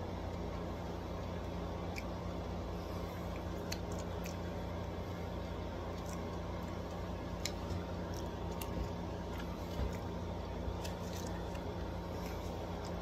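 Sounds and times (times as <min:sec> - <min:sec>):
low hum: 0:00.0 - 0:13.0
chewing: 0:01.2 - 0:04.9, 0:05.7 - 0:13.0.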